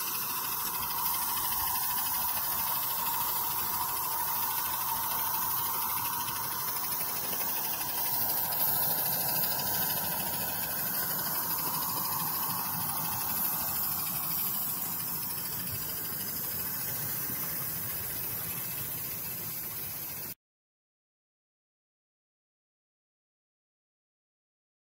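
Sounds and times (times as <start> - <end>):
small steam locomotive hissing: 0.0 - 20.4.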